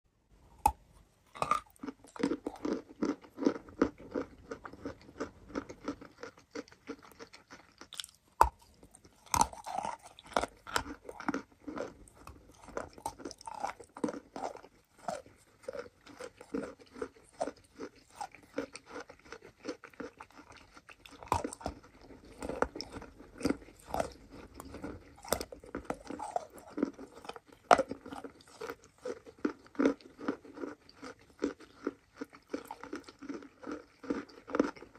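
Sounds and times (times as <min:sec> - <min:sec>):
biting and chewing chalk: 0:00.6 - 0:34.9.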